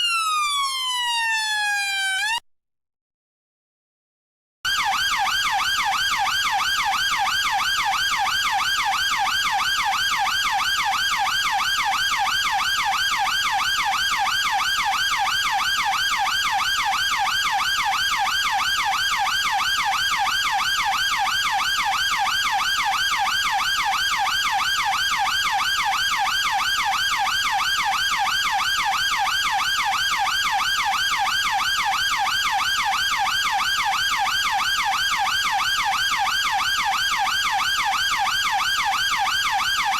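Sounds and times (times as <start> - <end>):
police siren yelping: 0.0 - 2.4, 4.7 - 39.9.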